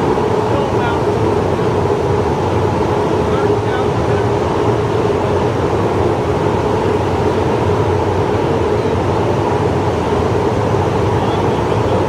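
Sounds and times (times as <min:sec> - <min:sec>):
constant electrical hum: 0:00.0 - 0:12.0
electric arc furnace roaring: 0:00.0 - 0:12.0.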